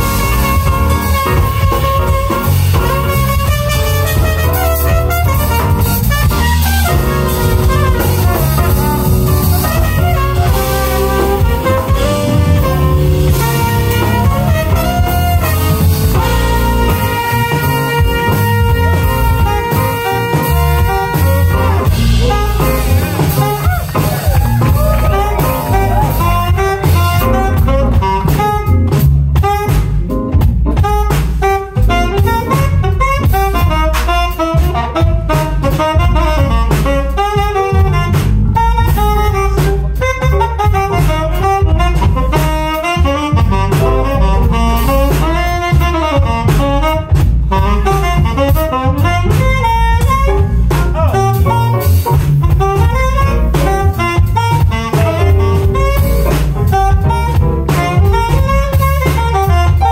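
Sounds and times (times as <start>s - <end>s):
drum kit: 0.0s - 59.9s
saxophone: 0.0s - 59.9s
trumpet: 0.0s - 59.9s.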